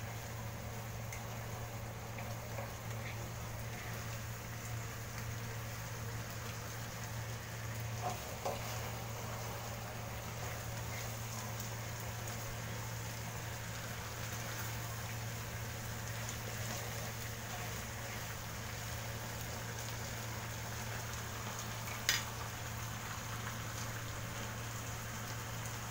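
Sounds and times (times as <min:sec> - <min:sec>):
sauce bubbling and sizzling: 0:00.0 - 0:25.9.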